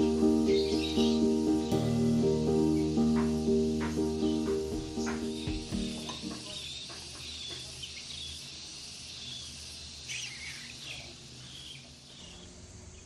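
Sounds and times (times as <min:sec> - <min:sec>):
lovebirds chirping: 0:00.0 - 0:13.0
steady hiss: 0:00.0 - 0:13.0.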